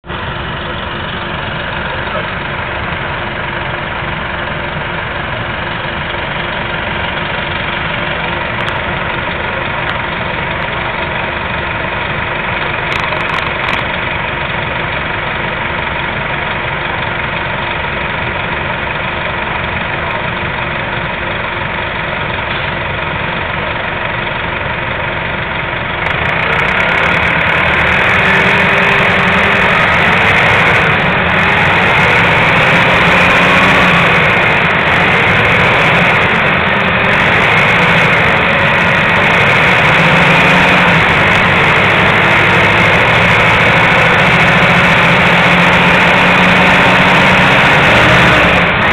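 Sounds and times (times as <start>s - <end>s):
bus engine idling: 0.0s - 48.9s.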